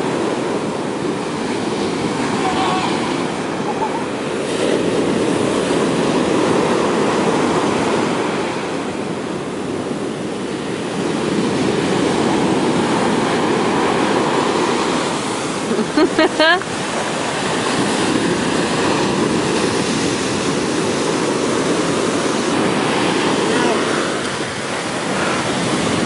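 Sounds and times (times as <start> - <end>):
surf breaking on beach: 0.0 - 26.0.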